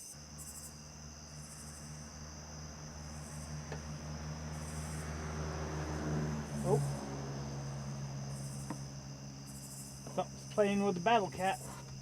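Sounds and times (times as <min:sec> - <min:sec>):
crickets chirping: 0:00.0 - 0:12.0
high insect trill: 0:00.0 - 0:12.0.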